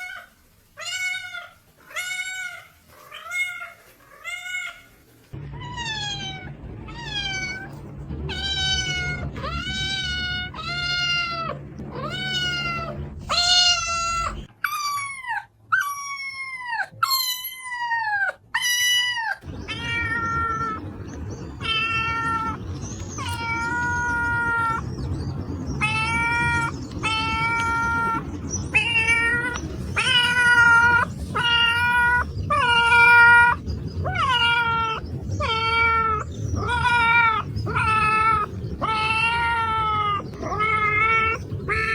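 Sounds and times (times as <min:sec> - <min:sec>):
cats meowing: 0:00.0 - 0:41.9.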